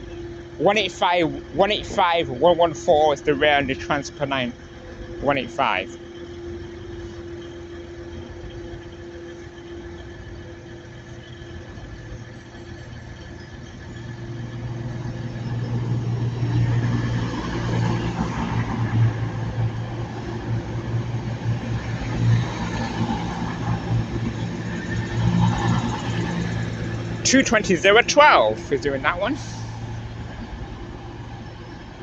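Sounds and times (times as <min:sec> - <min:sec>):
train diesel engines droning: 0:00.0 - 0:32.0.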